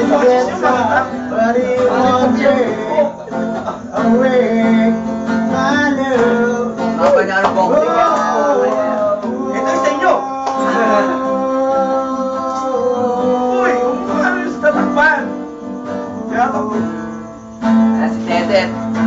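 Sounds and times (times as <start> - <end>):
person singing: 0.0 - 17.4
acoustic guitar strumming: 0.0 - 19.0.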